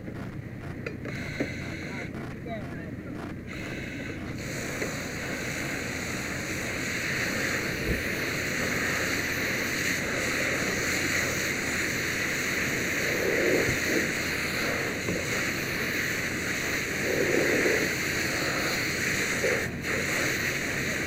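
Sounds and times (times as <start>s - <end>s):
fire hose water spraying: 3.5s - 21.0s.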